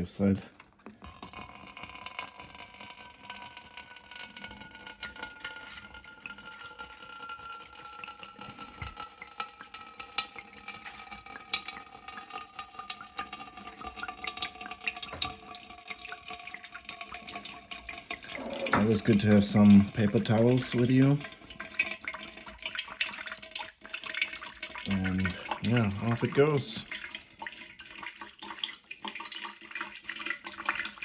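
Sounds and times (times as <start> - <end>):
coolant draining with splashing: 0.0 - 31.0.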